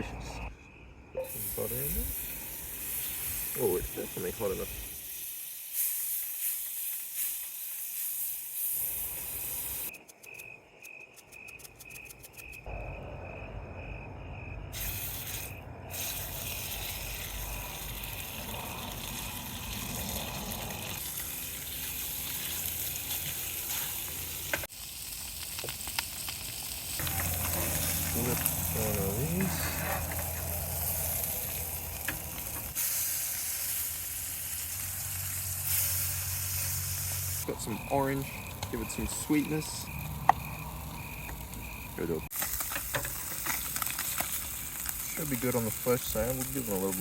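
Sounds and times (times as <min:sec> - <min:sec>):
fish frying in butter: 0:01.3 - 0:09.9, 0:14.9 - 0:47.0.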